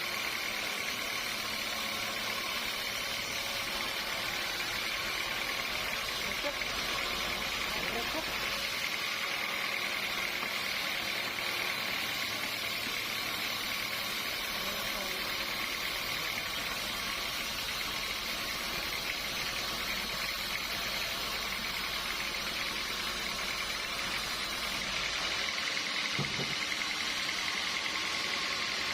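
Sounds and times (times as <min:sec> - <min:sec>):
high machine whine: 0:00.0 - 0:28.9
sawmill machinery running: 0:00.0 - 0:28.9.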